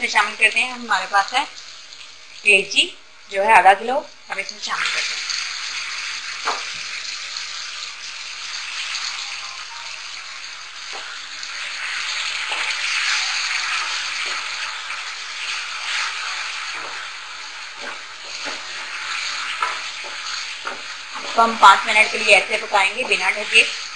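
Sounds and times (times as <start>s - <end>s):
liver sizzling in hot oil: 0.0s - 23.9s.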